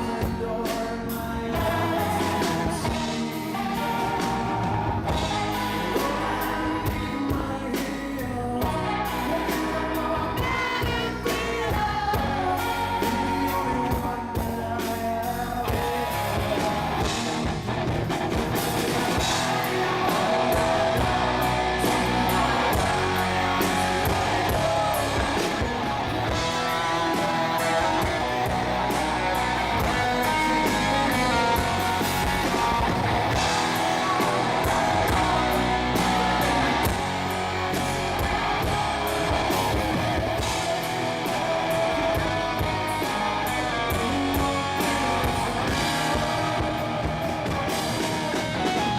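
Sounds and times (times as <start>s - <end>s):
drum kit: 0.0s - 48.9s
guitar: 0.0s - 48.9s
live rock band playing: 0.0s - 48.9s.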